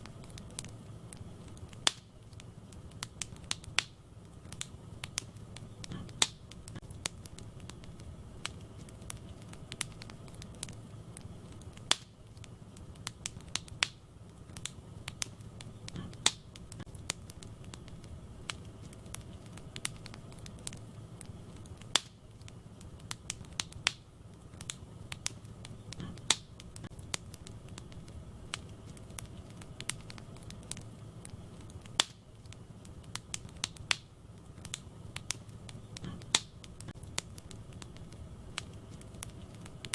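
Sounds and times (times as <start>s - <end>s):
burning logs popping and snapping: 0.0s - 39.9s
low rumble of flames: 0.0s - 39.9s.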